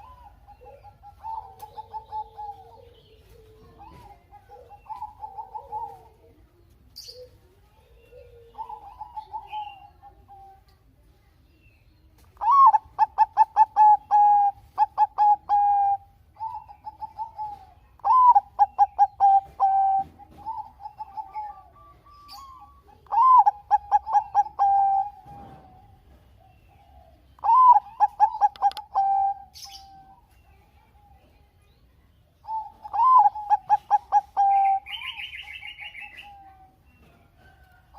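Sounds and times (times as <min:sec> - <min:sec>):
dove singing: 0:00.0 - 0:37.9.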